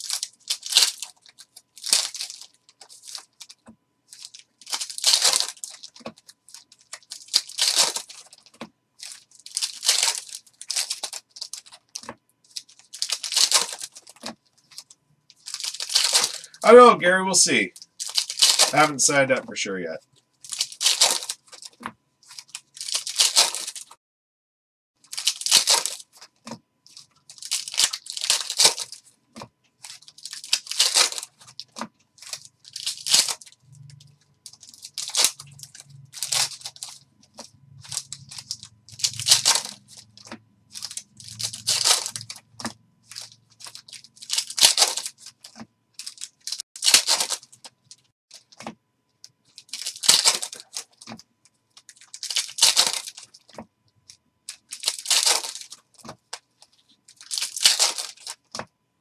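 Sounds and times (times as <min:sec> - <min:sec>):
foil packs tearing and crinkling: 0:00.0 - 0:16.6, 0:17.5 - 0:19.3, 0:20.4 - 0:24.0, 0:25.1 - 0:29.1, 0:29.8 - 0:48.6, 0:49.5 - 0:51.2, 0:51.8 - 0:53.6, 0:54.5 - 0:58.7.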